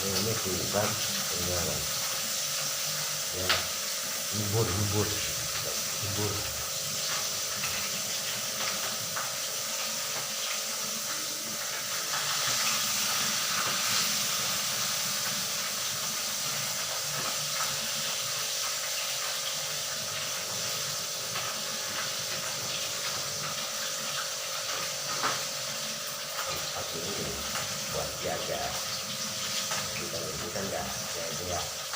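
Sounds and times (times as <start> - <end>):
fish frying in hot oil: 0.0 - 31.9.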